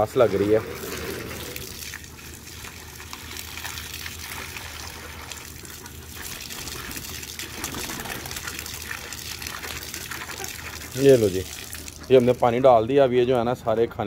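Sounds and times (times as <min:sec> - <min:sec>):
hose water splashing into bowl: 0:00.0 - 0:12.5.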